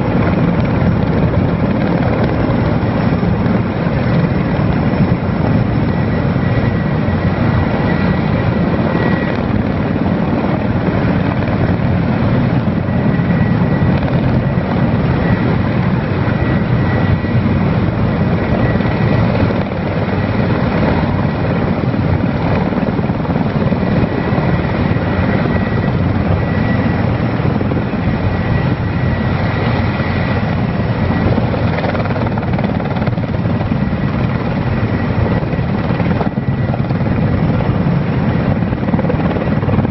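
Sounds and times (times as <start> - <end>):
faint turbine whine: 0.0 - 39.9
helicopter rotor rumble: 0.0 - 39.9.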